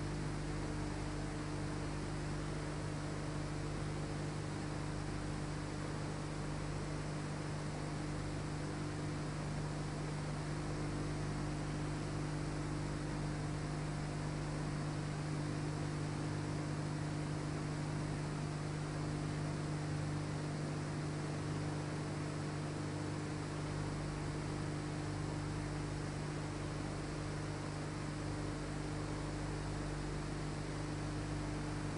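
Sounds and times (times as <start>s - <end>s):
electrical hum: 0.0s - 31.9s.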